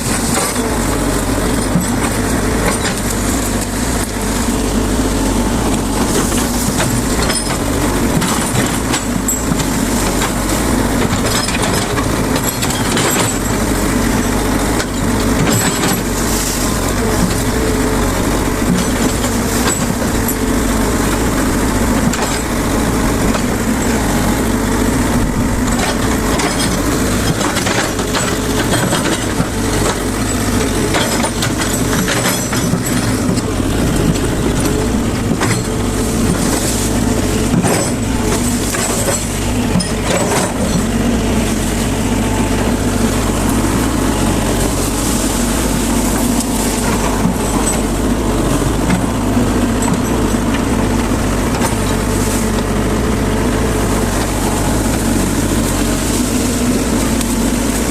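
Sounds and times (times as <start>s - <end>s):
branches cracking and clanking: 0.0s - 57.9s
excavator diesel engine running: 0.0s - 57.9s.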